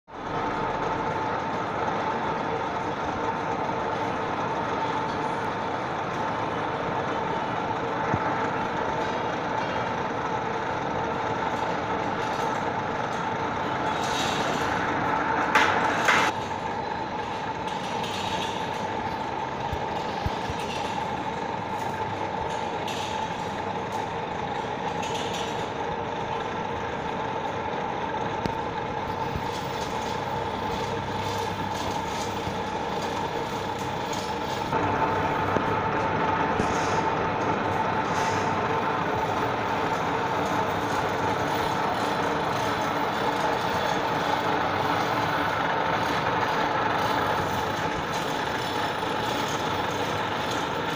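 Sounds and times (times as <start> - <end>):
milling machine motor hum: 0.1 - 50.9.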